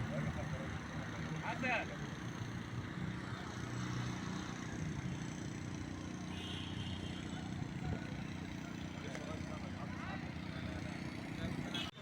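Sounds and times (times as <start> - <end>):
traffic noise: 0.0 - 12.0
vehicle engines humming: 0.0 - 12.0.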